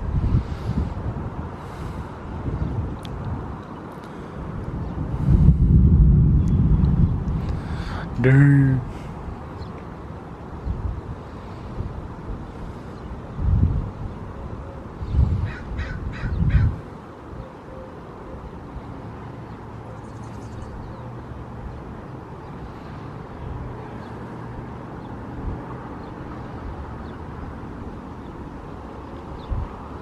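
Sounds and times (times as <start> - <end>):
wind buffeting microphone: 0.0 - 17.1, 20.2 - 30.0.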